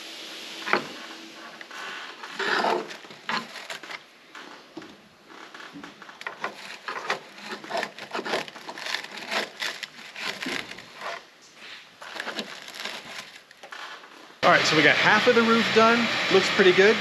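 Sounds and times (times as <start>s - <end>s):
scraping and rubbing on car bodywork: 0.6s - 14.4s.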